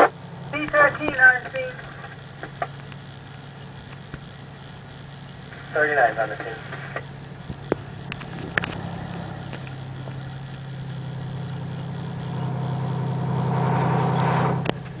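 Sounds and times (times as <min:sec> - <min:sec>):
sharp clicks: 0:00.0 - 0:05.7, 0:06.4 - 0:12.5, 0:13.8 - 0:15.0
fire engine idling: 0:00.0 - 0:15.0.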